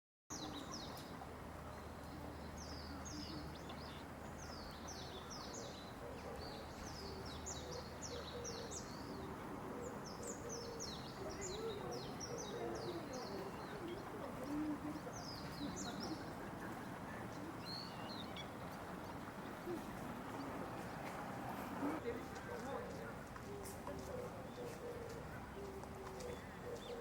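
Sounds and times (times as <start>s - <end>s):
outdoor background noise: 0.3s - 27.0s.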